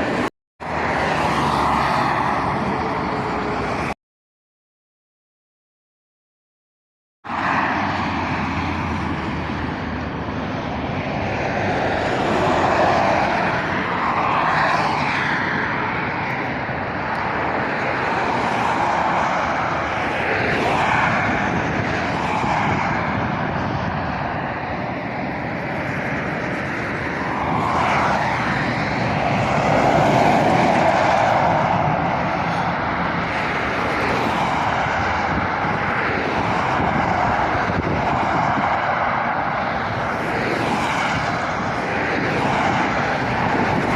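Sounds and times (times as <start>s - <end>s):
lorries and cars passing: 0.0s - 4.0s, 7.2s - 43.9s.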